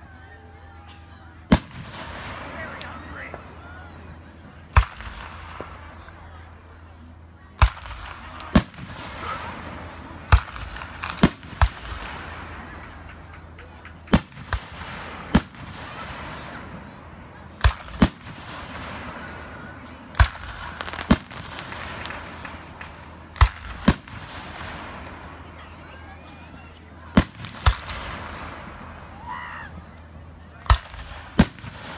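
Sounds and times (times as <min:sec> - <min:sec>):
firework crackling: 0:01.4 - 0:31.9
firework bangs: 0:01.5 - 0:03.6, 0:04.6 - 0:06.3, 0:07.6 - 0:25.9, 0:27.0 - 0:29.4, 0:30.6 - 0:31.9.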